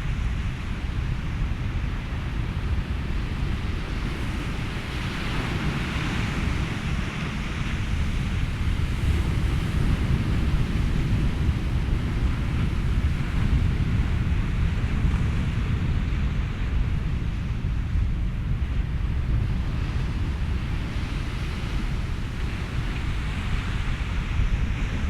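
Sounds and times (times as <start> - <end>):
ocean waves: 0.0 - 25.0
wind: 0.0 - 25.0.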